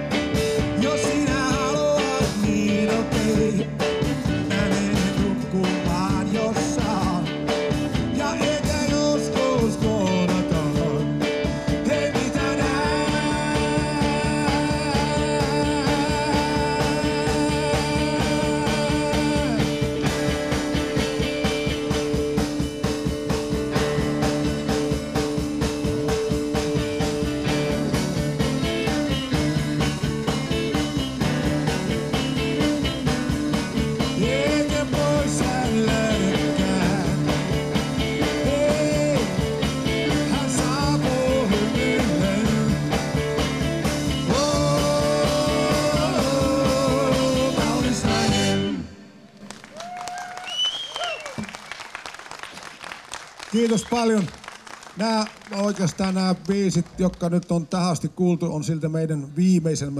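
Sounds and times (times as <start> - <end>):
steady drum beat: 0.0 - 48.7
lead guitar with bent notes: 0.0 - 49.1
live rock band playing: 0.0 - 50.4.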